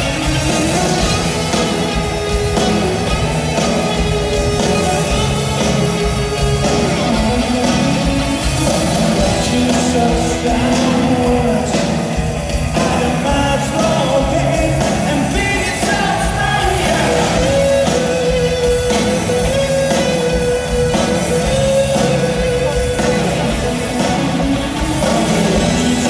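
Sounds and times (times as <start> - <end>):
live rock band with singing: 0.0 - 26.0.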